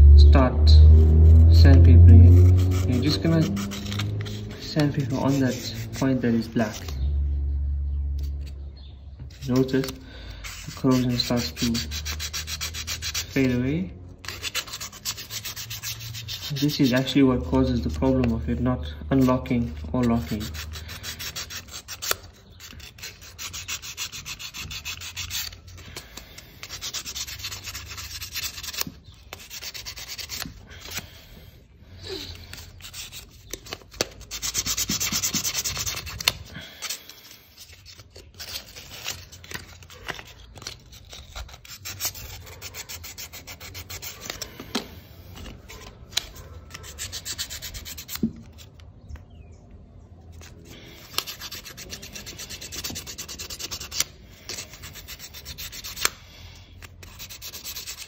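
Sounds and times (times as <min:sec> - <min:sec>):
sandpaper rubbing in short strokes: 0:00.7 - 0:07.1, 0:09.3 - 0:13.6, 0:14.2 - 0:31.4, 0:32.0 - 0:48.8, 0:50.4 - 0:58.0.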